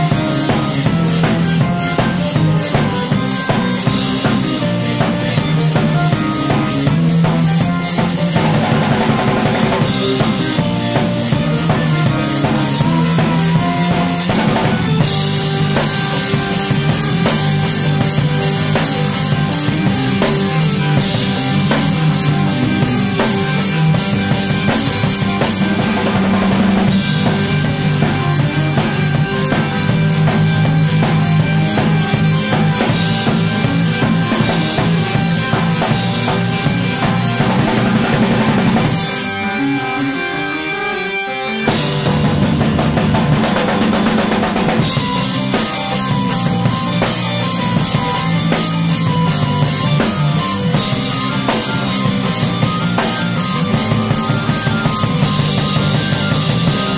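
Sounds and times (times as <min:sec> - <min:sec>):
drum kit playing: 0:00.0 - 0:56.9
electric bass guitar notes: 0:00.0 - 0:56.9.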